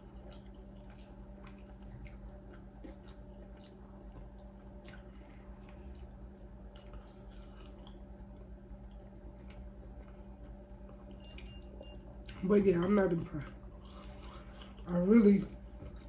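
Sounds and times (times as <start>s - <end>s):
person chewing food: 0.0s - 12.4s, 13.4s - 14.9s, 15.5s - 16.0s
low hum: 0.0s - 16.0s.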